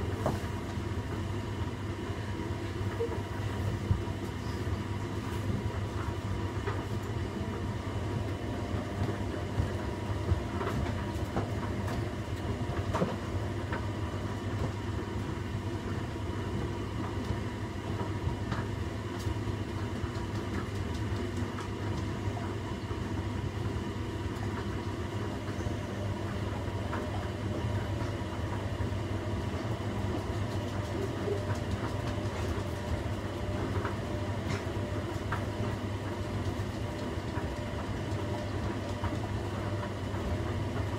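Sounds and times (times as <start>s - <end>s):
washing machine running: 0.0s - 40.9s.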